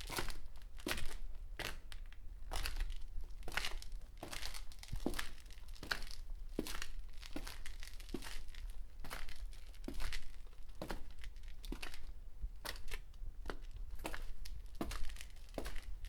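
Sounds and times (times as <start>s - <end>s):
footsteps on gritty concrete: 0.0s - 1.9s, 2.5s - 16.0s.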